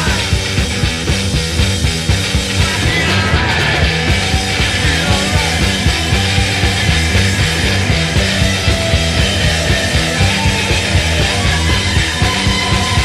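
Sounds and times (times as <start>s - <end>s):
rock music with strong bass: 0.0s - 13.0s.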